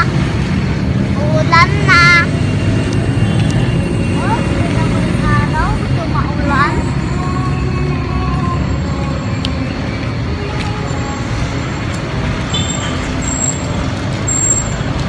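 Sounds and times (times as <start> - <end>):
motorcycles passing: 0.0 - 15.0
street traffic noise: 0.0 - 15.0.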